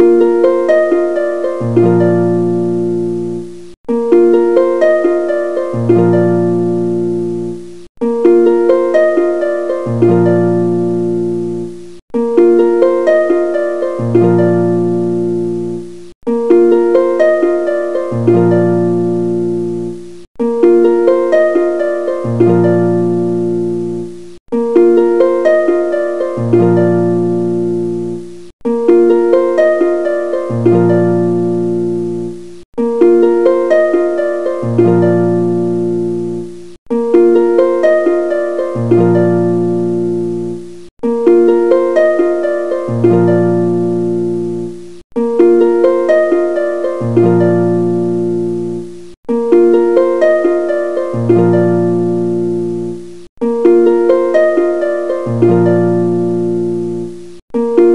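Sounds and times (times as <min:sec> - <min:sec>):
gentle plucked-string melody: 0:00.0 - 0:57.9.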